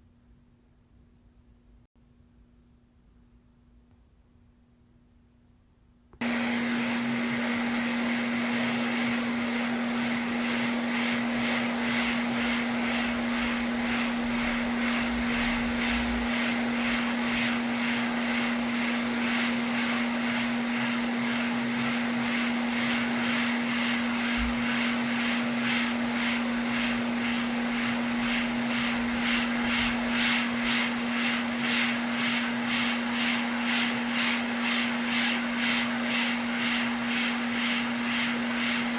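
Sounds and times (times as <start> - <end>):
electric machine hum: 6.2 - 38.9.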